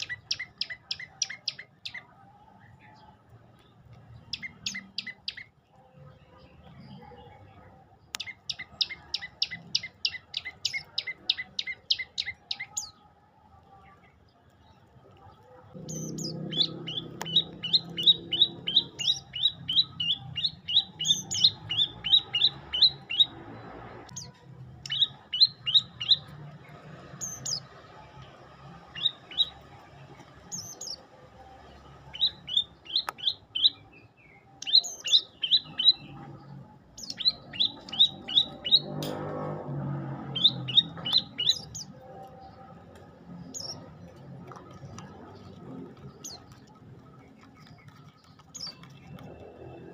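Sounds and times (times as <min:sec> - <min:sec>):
songbird sharp chirps: 0:00.0 - 0:13.1, 0:15.7 - 0:39.3, 0:40.2 - 0:49.9.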